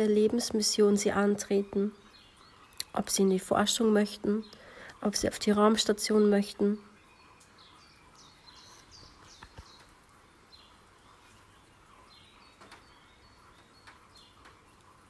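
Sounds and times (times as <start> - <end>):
soft hiss: 0.0 - 15.0
songbird chirps: 0.0 - 15.0.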